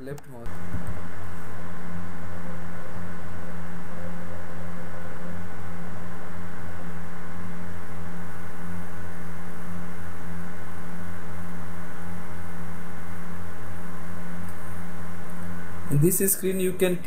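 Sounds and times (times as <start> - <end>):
constant hiss: 0.0 - 17.0
low electrical hum: 0.0 - 17.0.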